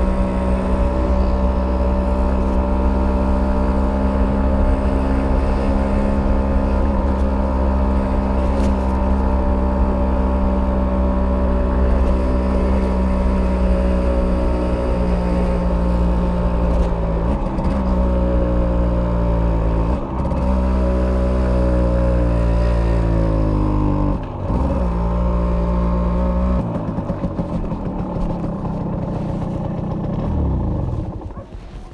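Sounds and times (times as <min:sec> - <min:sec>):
two-stroke engine running: 0:00.0 - 0:31.9.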